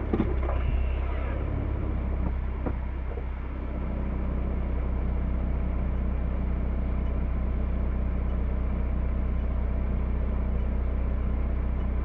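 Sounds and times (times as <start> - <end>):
tyres and drivetrain rumbling: 0.0 - 12.0.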